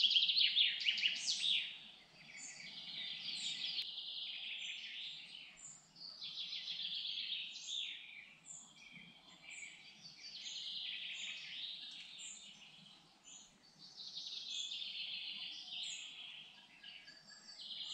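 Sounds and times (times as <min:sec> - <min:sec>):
songbirds singing: 0:00.0 - 0:17.9.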